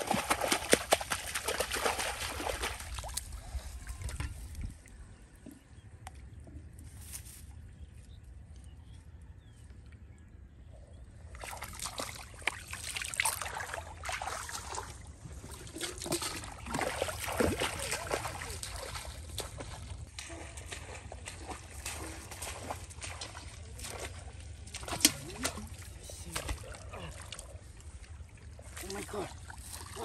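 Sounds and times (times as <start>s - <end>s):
muddy water splashing and sloshing: 0.0s - 7.1s, 11.0s - 30.0s.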